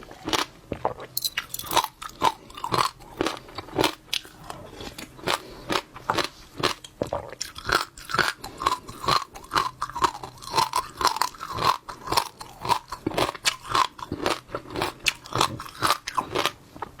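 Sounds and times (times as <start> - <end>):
chewing crunchy wet seeds: 0.0 - 16.9.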